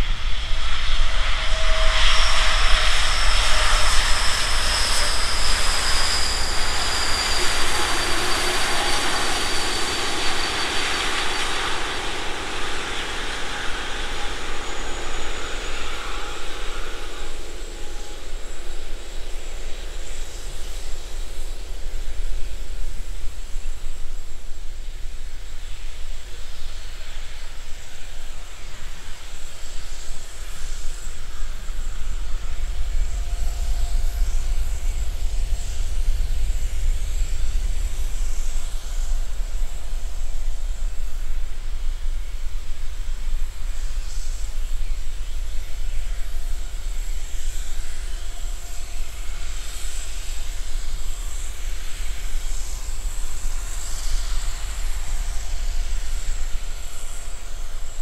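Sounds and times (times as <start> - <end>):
faint engine whine: 0.0 - 58.0
jet engines rumbling: 0.0 - 58.0.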